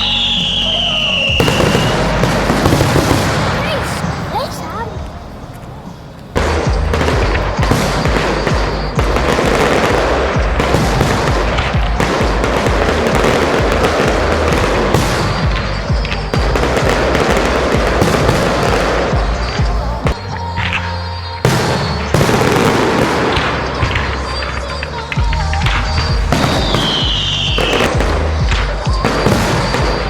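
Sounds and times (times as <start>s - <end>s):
heavy firework bangs: 0.0s - 4.9s, 6.4s - 30.0s
fireworks crackling and banging: 0.0s - 30.0s.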